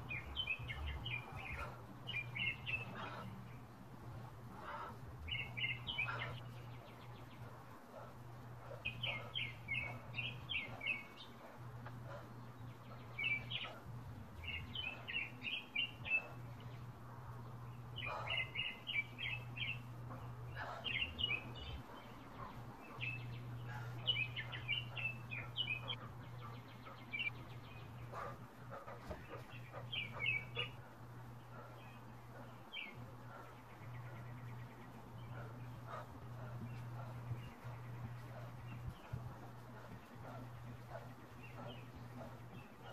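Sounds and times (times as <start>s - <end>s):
songbird singing: 0.0s - 42.9s
steady low hum: 0.0s - 42.9s.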